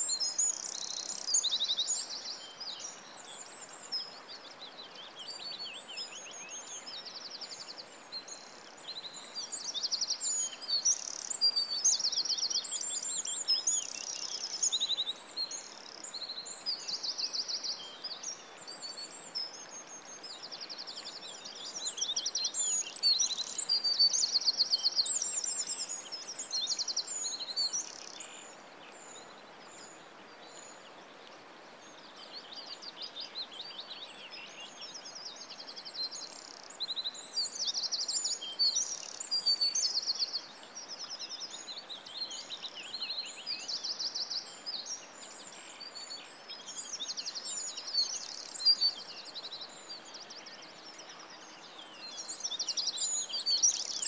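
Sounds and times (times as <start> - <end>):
songbirds singing and chirping: 0.0 - 54.0
steady background hiss: 0.0 - 54.0.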